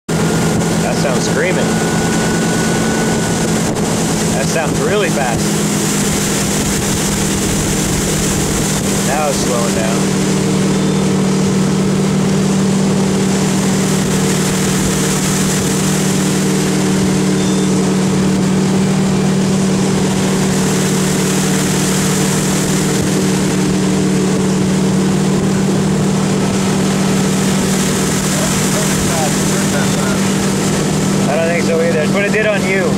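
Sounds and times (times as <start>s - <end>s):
boat engine droning: 0.1s - 32.9s
rushing water and air: 0.1s - 32.9s.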